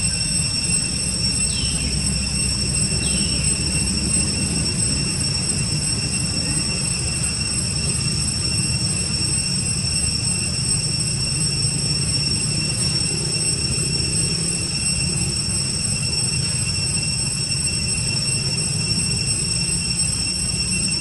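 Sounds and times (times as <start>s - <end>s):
constant low rumble: 0.0s - 21.0s
high-pitched insect drone: 0.0s - 21.0s.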